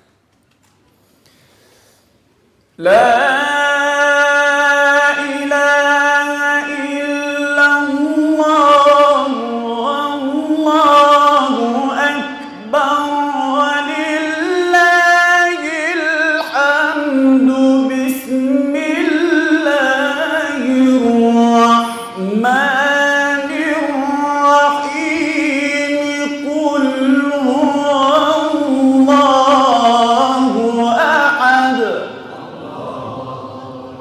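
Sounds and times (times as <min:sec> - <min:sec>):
man reciting melodically: 0:02.8 - 0:34.0.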